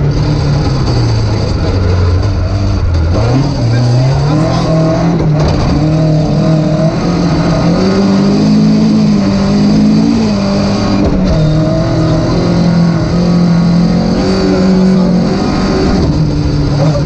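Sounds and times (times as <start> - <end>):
rally car engine accelerating: 0.0 - 17.0
tyres rumbling on dirt road: 0.0 - 17.0.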